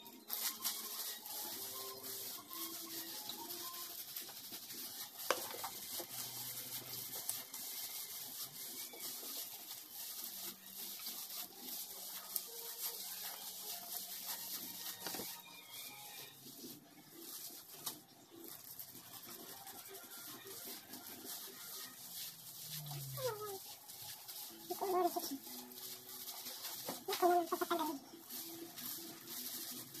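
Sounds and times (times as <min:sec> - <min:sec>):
hands rubbing wet hair: 0:00.3 - 0:18.0, 0:18.8 - 0:30.0.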